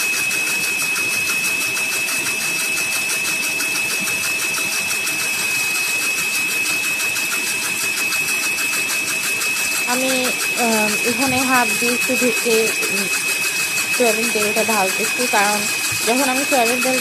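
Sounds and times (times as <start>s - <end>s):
blender motor whining: 0.0s - 17.0s.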